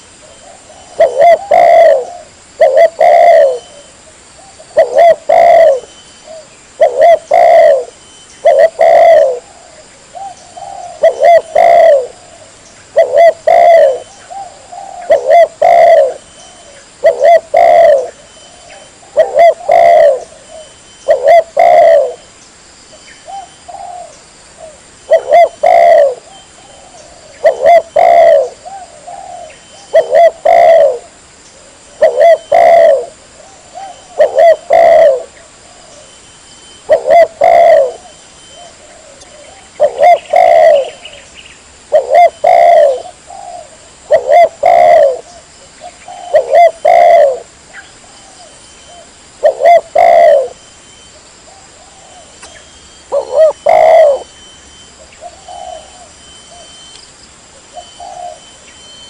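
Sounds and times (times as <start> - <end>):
dove cooing: 0.0 - 22.3, 23.2 - 50.6, 51.2 - 56.9, 57.6 - 59.0.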